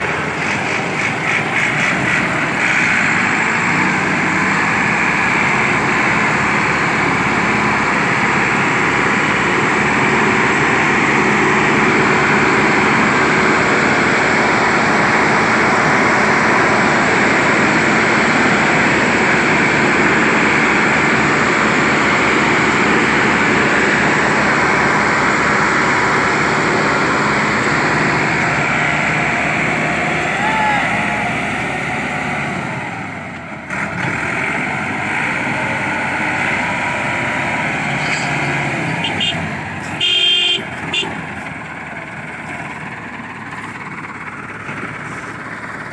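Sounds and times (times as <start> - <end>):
tractor diesel engines under load: 0.0 - 45.9.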